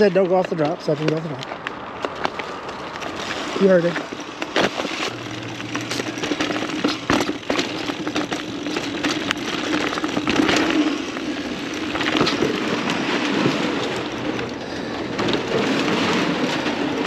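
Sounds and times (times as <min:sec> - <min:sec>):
bike chain and frame rattling: 0:00.0 - 0:17.0
bike tyres rolling on dirt: 0:00.0 - 0:17.0.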